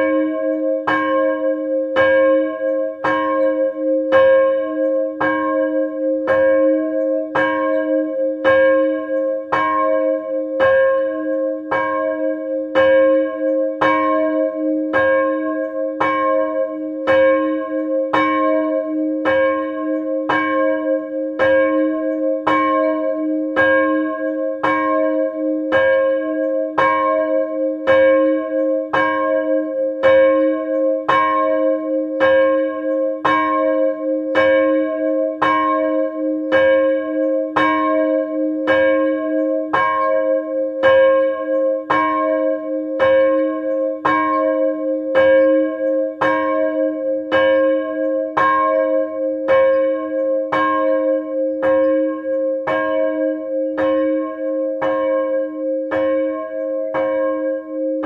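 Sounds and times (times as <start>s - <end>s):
church bell ringing: 0.0s - 58.0s.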